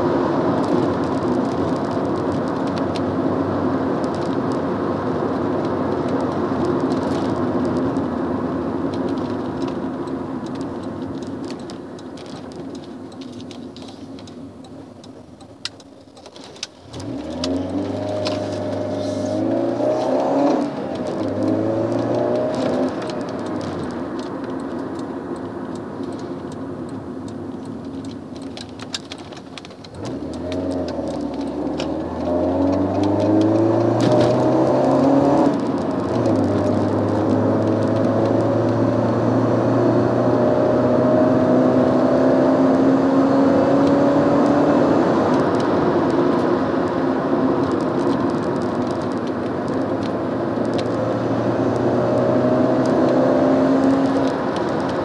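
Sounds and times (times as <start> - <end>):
car engine from inside cabin: 0.0 - 55.0
road noise: 0.0 - 55.0.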